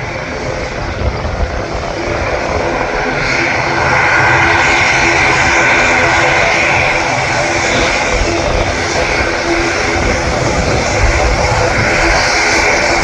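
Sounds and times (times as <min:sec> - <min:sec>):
airliner engines roaring: 0:00.0 - 0:13.0.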